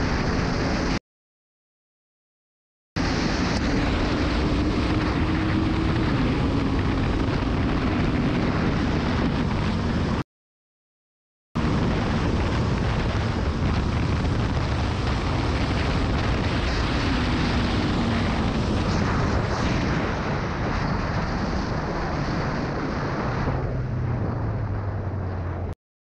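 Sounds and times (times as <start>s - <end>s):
wind rush over microphone: 0.0s - 1.0s, 3.0s - 10.2s, 11.6s - 25.8s.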